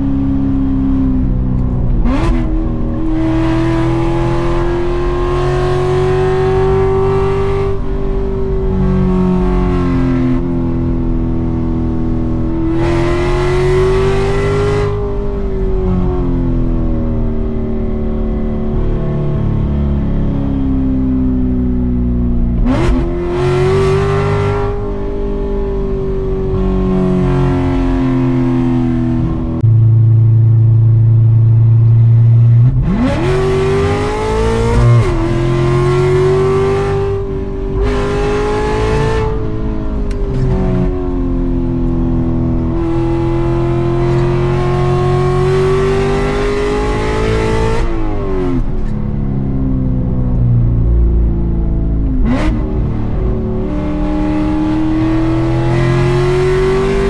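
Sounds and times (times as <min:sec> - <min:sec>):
car engine revving: 0:00.0 - 0:20.8, 0:21.4 - 0:57.0.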